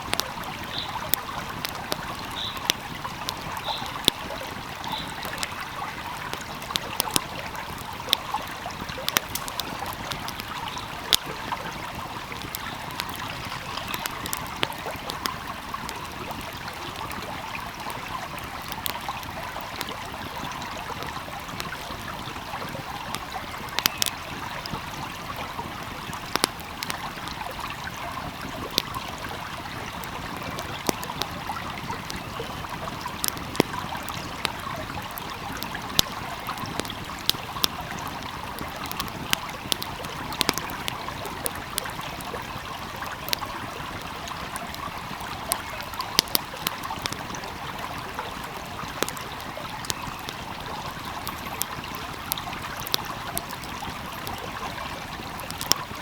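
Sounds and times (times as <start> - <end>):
stream babbling: 0.0 - 56.0
wood fire crackling: 0.0 - 56.0.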